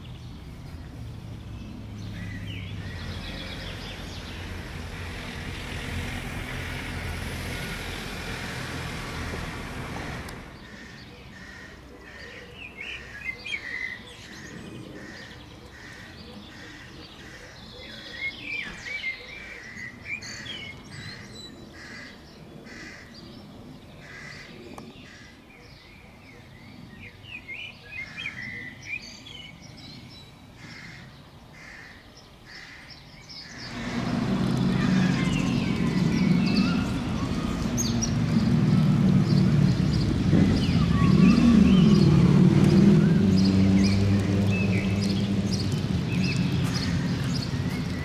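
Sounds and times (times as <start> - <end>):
songbirds chirping and trilling: 0.0 - 48.0.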